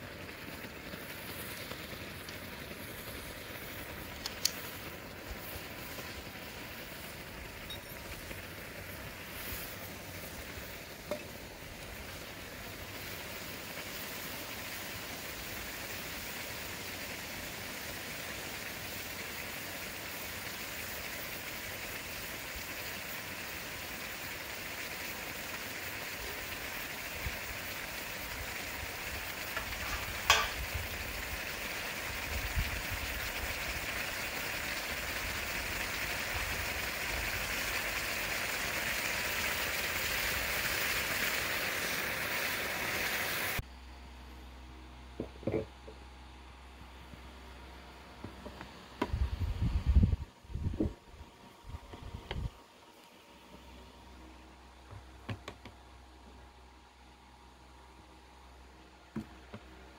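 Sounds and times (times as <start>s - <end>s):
steady hissing noise: 0.0s - 59.9s.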